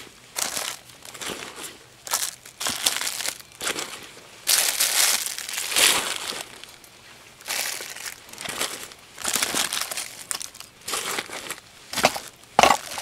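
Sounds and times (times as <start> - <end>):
plastic bags crinkling: 0.4 - 13.0.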